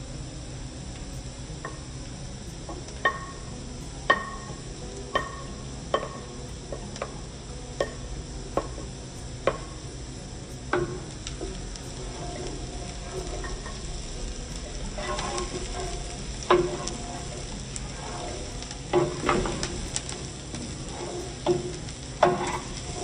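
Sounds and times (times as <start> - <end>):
onions sizzling in oil: 0.0 - 23.0.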